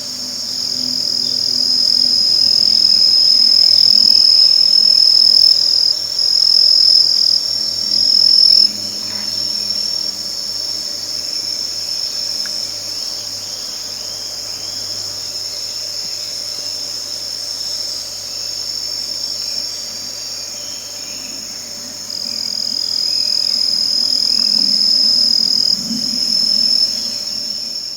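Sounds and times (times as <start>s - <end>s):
insects trilling: 0.0s - 27.9s.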